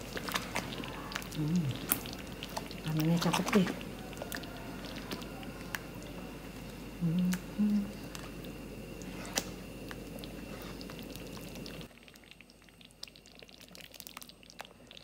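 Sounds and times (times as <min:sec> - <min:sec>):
sauce ticking and popping: 0:00.0 - 0:15.0.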